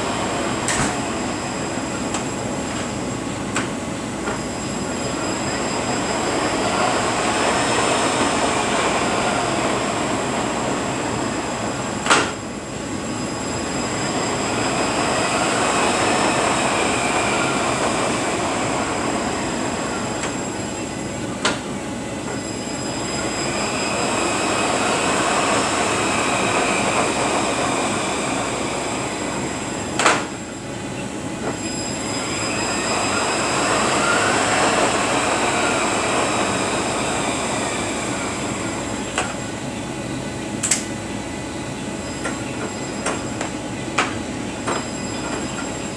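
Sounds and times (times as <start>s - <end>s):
transmission whine: 0.0s - 45.9s.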